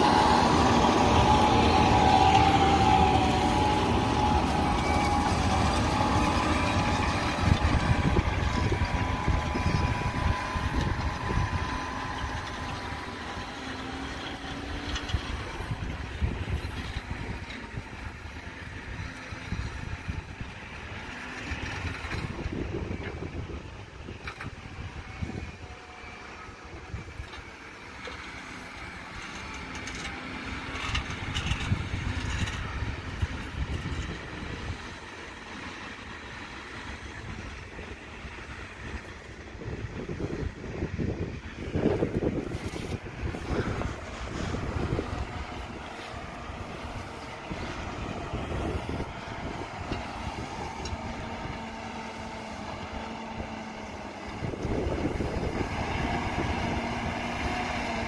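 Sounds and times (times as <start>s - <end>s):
wind rumble on microphone: 0.0s - 28.2s, 28.8s - 35.4s, 36.8s - 58.0s
tractor diesel engine under load: 0.0s - 58.0s.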